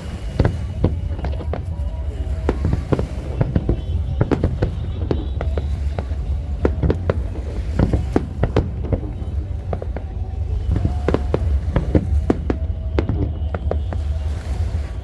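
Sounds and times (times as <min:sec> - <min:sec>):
fireworks bursting: 0:00.0 - 0:15.0
low rumble: 0:00.0 - 0:15.0.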